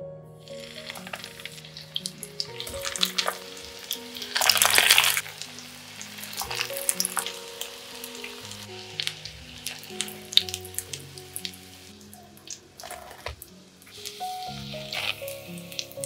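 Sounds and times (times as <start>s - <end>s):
cutlets sizzling in oil: 0.6s - 16.0s.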